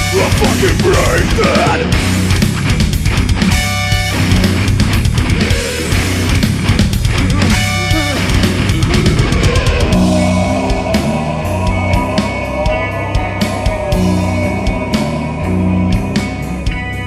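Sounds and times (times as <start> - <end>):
bass: 0.0 - 17.0
drum kit: 0.0 - 17.0
electric guitar: 0.0 - 17.0.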